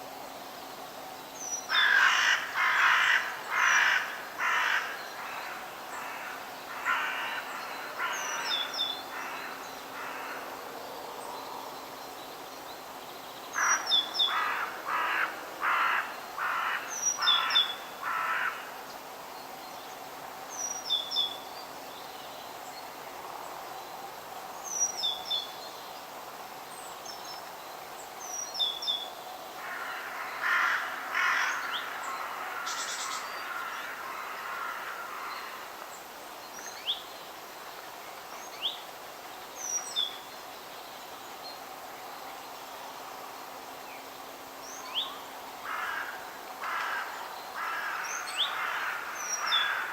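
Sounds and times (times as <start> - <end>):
steady background hiss: 0.0 - 49.9.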